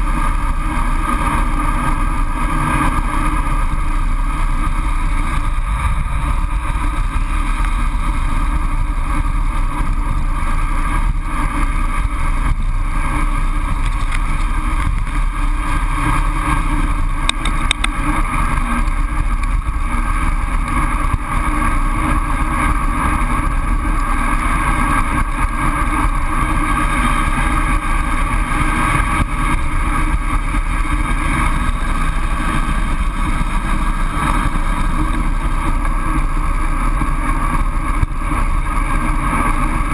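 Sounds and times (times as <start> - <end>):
bike tyres on asphalt: 0.0 - 39.9.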